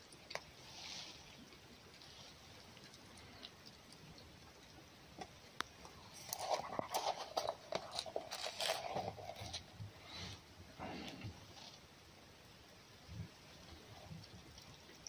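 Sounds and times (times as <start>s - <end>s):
fox chewing food: 0.0s - 11.9s, 13.2s - 15.0s.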